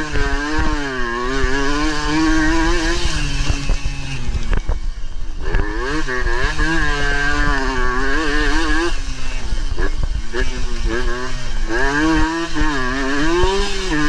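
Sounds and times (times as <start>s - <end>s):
two-stroke engine revving: 0.0s - 14.0s.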